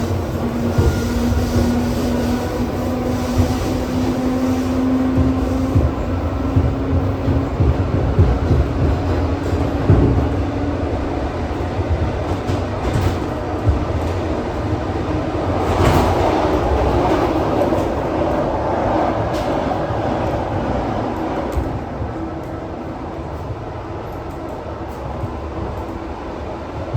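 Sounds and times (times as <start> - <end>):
train rumble: 0.0 - 26.9.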